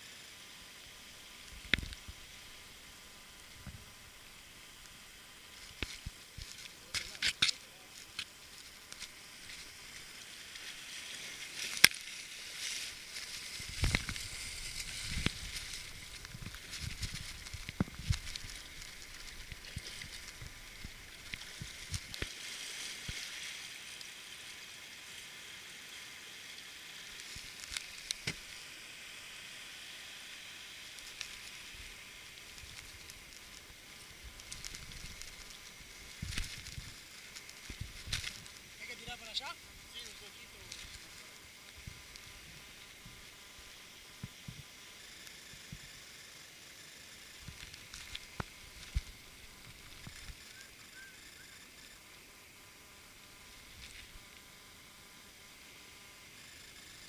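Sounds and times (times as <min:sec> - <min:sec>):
surf and foam hissing: 0:00.0 - 0:57.0.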